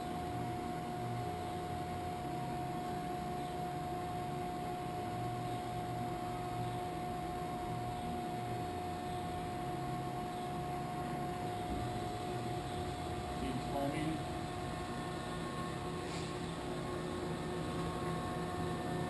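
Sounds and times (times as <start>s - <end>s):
machine electrical hum and whine: 0.0s - 19.0s.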